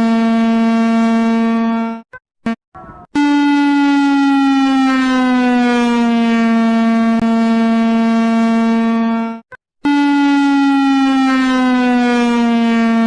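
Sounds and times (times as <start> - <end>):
reversed buzzy alarm tone: 0.0 - 13.0.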